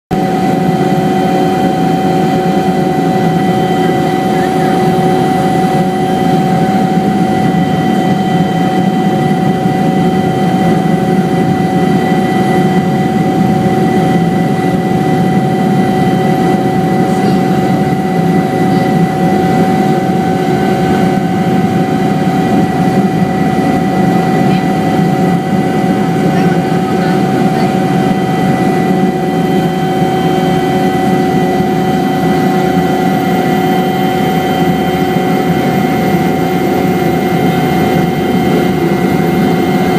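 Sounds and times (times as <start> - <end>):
helicopter engine and rotor rumble: 0.1 - 39.9
helicopter whine: 0.1 - 39.9.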